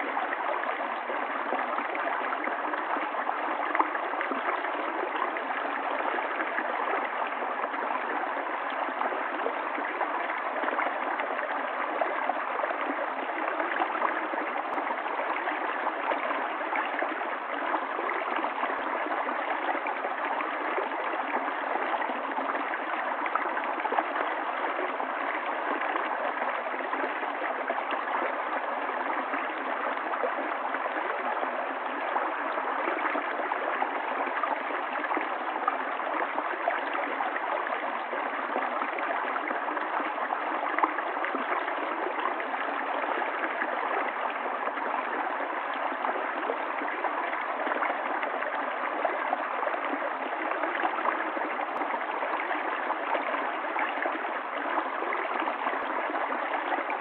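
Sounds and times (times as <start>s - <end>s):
stream of water gurgling: 0.0s - 57.0s.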